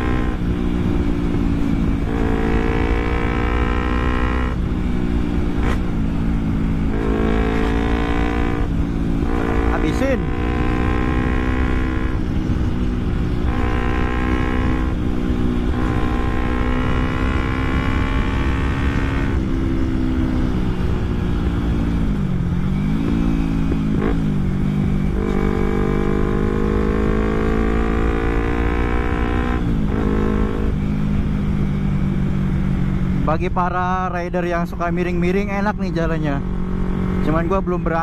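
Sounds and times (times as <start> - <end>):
motorcycle engine with gear changes: 0.0 - 33.4
wind rumble on microphone: 0.0 - 33.6.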